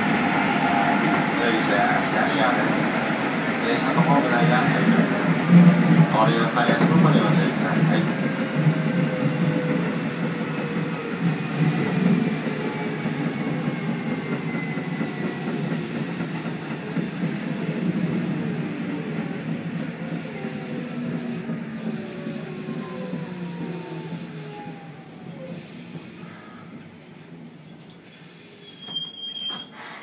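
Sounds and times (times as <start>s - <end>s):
train wheels rumbling: 0.0s - 27.1s.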